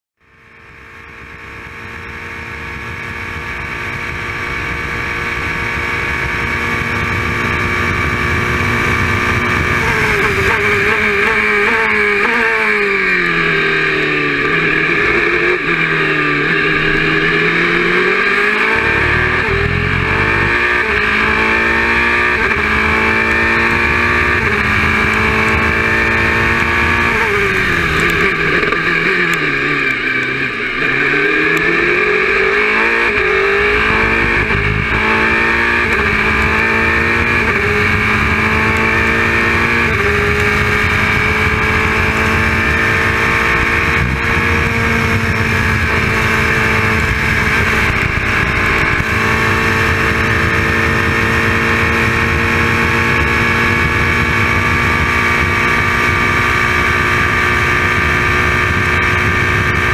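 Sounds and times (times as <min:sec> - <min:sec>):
racing car engine: 0:00.2 - 0:59.9
engine gear changes: 0:06.2 - 0:59.9.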